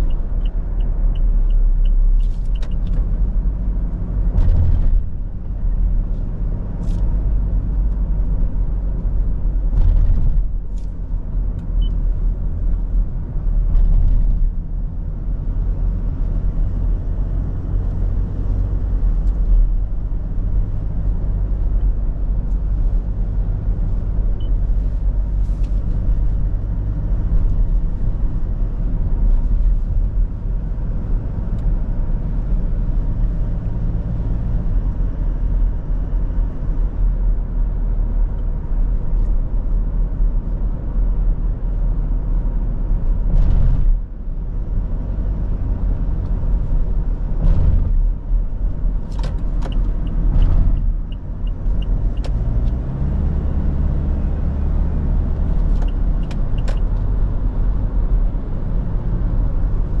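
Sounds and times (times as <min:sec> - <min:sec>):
diesel engine rumble while driving: 0:00.0 - 1:00.0
road noise: 0:00.0 - 1:00.0.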